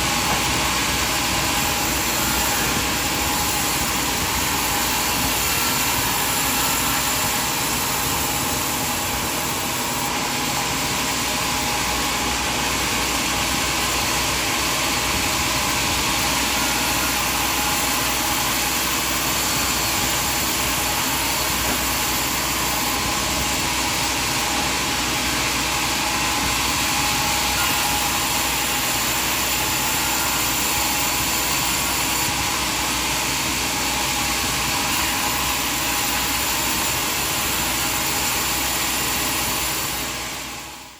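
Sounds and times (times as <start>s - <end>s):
sawmill machinery running: 0.0s - 40.9s
thin high whine: 0.0s - 40.9s.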